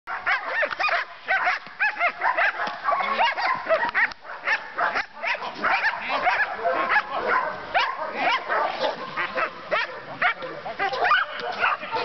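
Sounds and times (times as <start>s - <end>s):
dogs barking rapidly: 0.1s - 12.0s.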